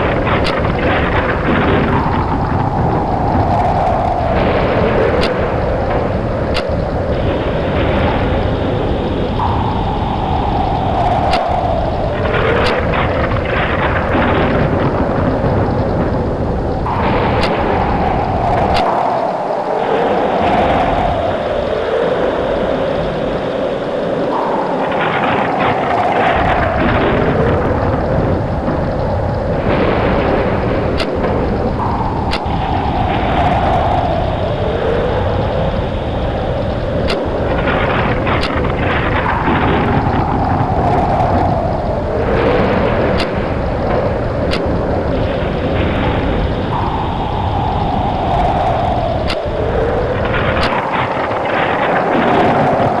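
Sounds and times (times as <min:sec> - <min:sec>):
rain: 0:00.0 - 0:53.0
thunder cracks: 0:00.0 - 0:53.0
thunder rumbling: 0:00.0 - 0:53.0.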